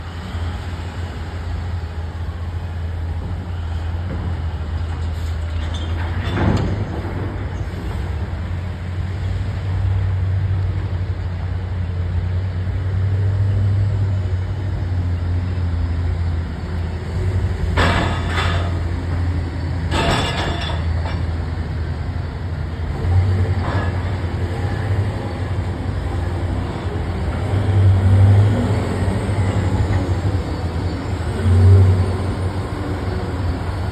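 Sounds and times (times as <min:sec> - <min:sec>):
bulldozer diesel engine droning: 0:00.0 - 0:33.9.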